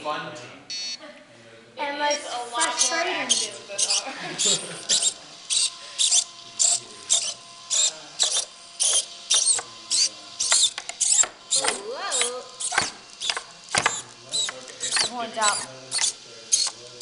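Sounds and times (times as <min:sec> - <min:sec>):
servo motors whirring: 0:02.0 - 0:17.0.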